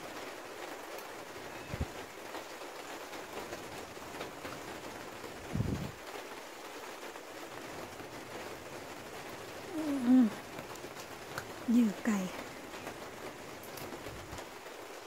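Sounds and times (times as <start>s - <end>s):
light rain on plants: 0.0s - 15.0s.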